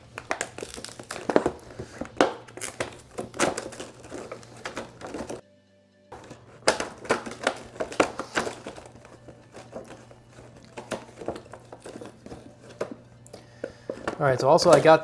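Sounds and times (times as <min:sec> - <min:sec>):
plastic packaging crinkling: 0:00.0 - 0:05.4, 0:06.2 - 0:15.0.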